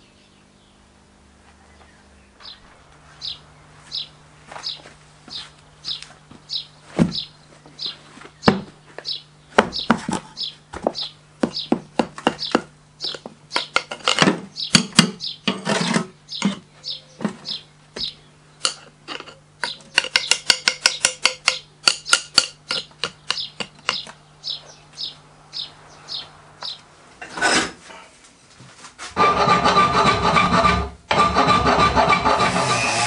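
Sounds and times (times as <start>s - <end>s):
low steady hum: 0.0s - 31.2s.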